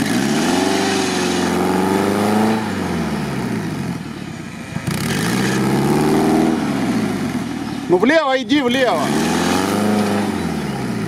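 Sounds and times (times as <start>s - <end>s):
car engine revving hard: 0.0s - 4.0s, 4.8s - 11.0s.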